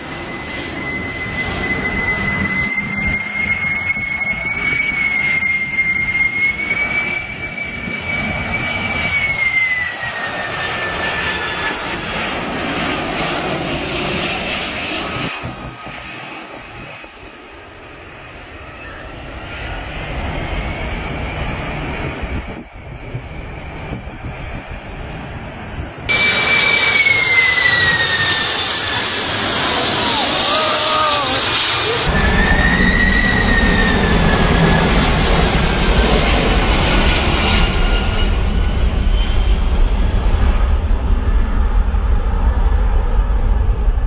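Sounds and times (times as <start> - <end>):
jet engine roar and whine: 0.0 - 44.0.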